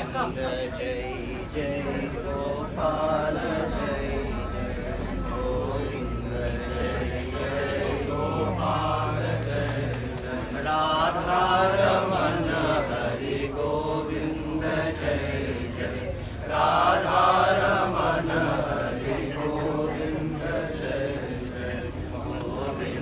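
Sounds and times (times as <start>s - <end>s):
group chanting: 0.0s - 23.0s.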